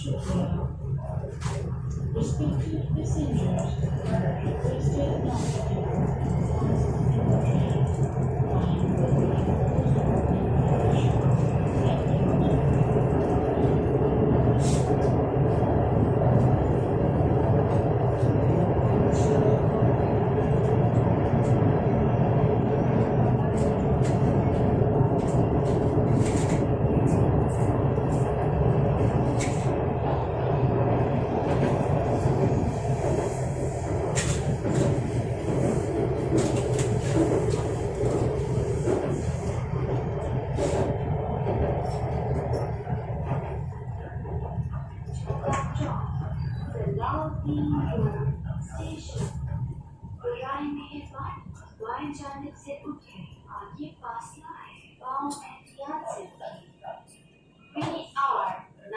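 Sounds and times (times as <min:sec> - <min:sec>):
train rumbling: 0:00.0 - 0:57.2.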